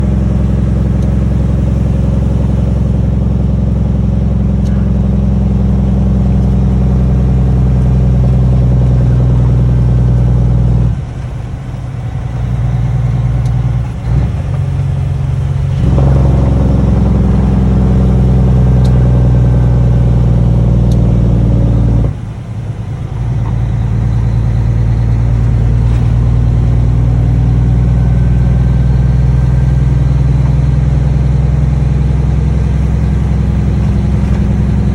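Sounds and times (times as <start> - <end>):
loud diesel engine running: 0.0 - 34.9.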